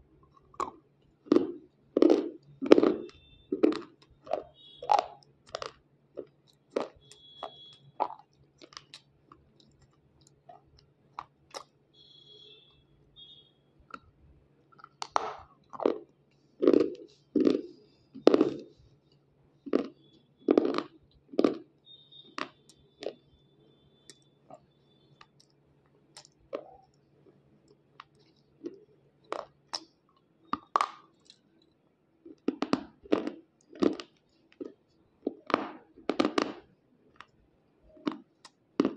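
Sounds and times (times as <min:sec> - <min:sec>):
crunching and chewing slate: 0:00.0 - 0:12.1, 0:13.2 - 0:38.9.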